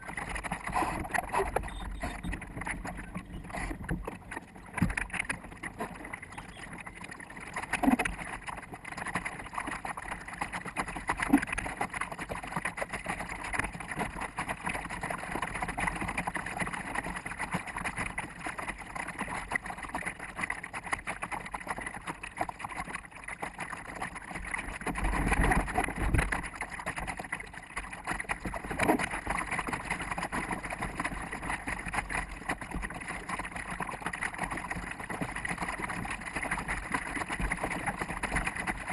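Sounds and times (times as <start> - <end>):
water slapping against boat bow: 0.0 - 38.9.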